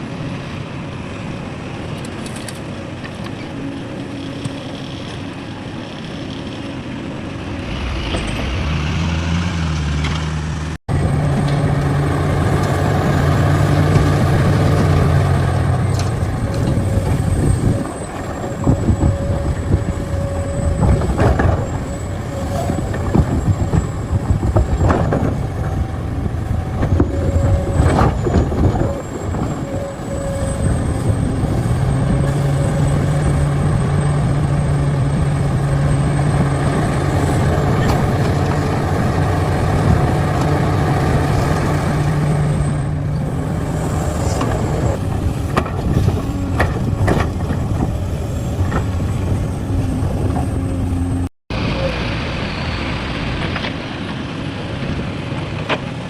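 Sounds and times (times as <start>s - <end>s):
diesel engines droning: 0.0s - 56.0s.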